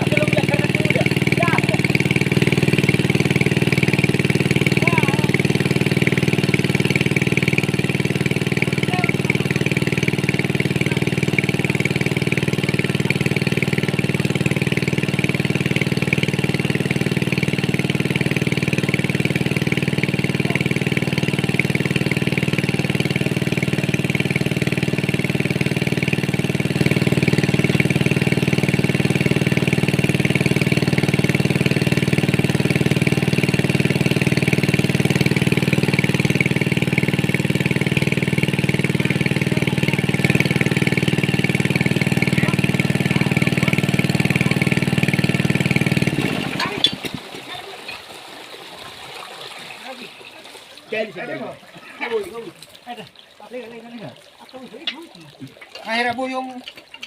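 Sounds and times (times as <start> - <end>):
small engine running: 0.0 - 49.1.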